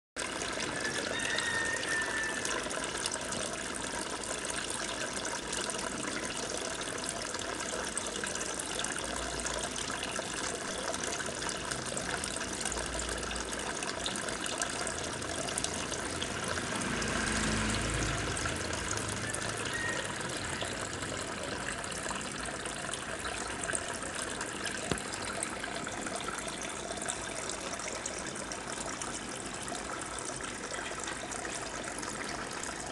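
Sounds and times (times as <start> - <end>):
aquarium water trickling: 0.2 - 32.9.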